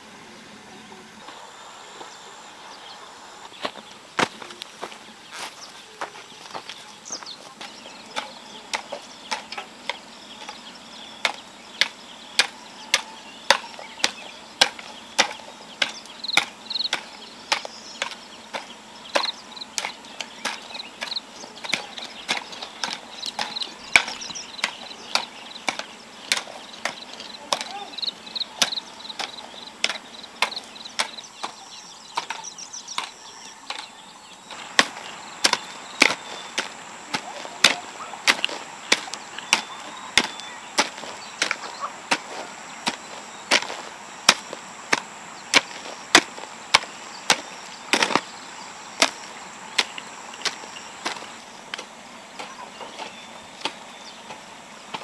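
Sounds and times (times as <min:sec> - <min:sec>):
hoes chopping into soil: 0:03.5 - 0:55.0.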